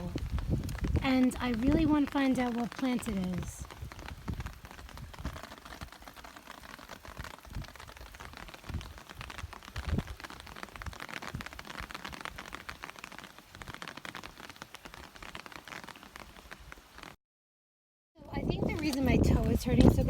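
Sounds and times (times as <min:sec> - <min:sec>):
hail ticking: 0:00.0 - 0:17.1.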